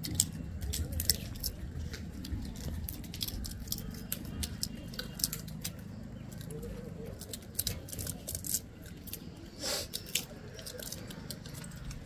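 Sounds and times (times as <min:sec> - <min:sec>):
monkey crunching food: 0:00.0 - 0:12.0.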